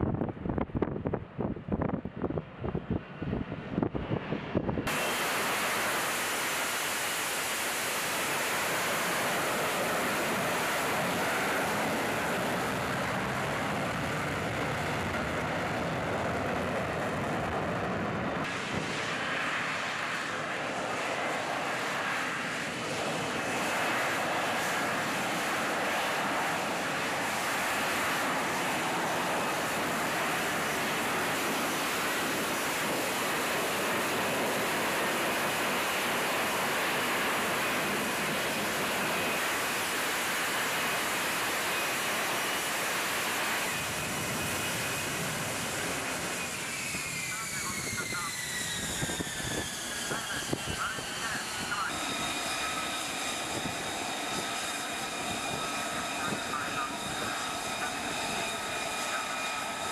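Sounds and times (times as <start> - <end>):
jet engine rushing noise: 0.0 - 59.9.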